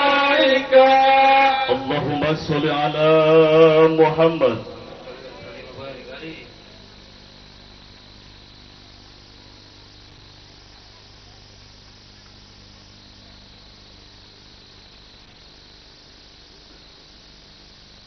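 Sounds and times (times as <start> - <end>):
electrical hum and hiss: 0.0 - 18.0
high-pitched buzz: 0.0 - 18.0.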